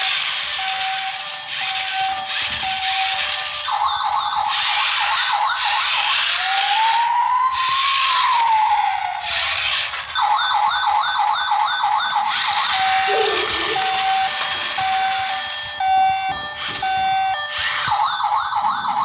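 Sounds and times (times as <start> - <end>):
toy police car siren: 0.0 - 19.0.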